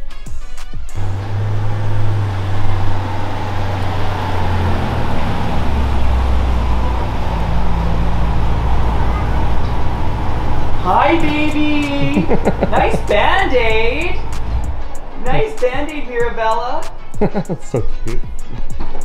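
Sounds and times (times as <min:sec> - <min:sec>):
car engine running: 0:01.0 - 0:18.0.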